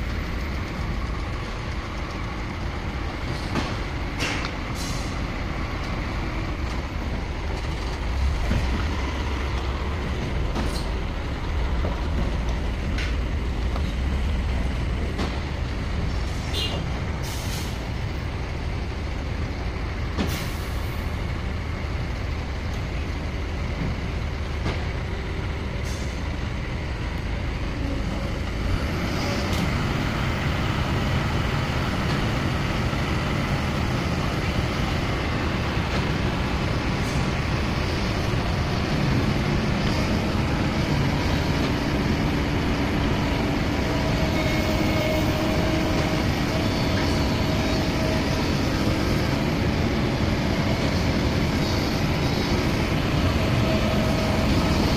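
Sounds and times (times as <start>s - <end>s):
excavator diesel engines droning: 0.0s - 54.9s.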